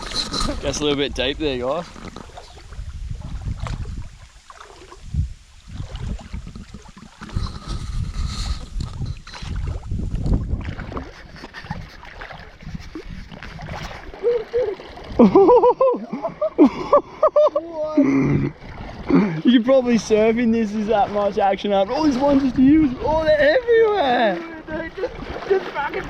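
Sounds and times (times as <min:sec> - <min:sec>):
wind buffeting on microphone: 0:00.0 - 0:15.6, 0:17.7 - 0:26.0
water sloshing and gurgling: 0:00.0 - 0:26.0.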